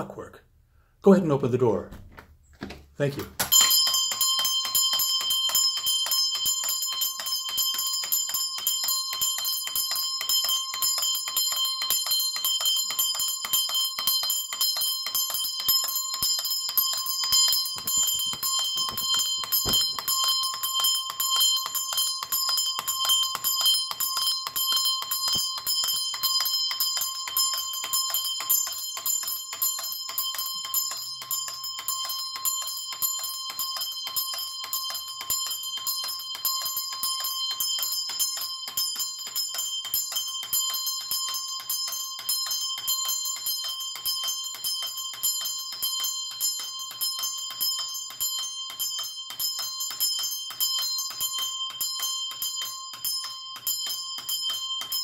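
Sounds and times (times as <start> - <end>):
alarm bell ringing rapidly: 3.4 - 55.0.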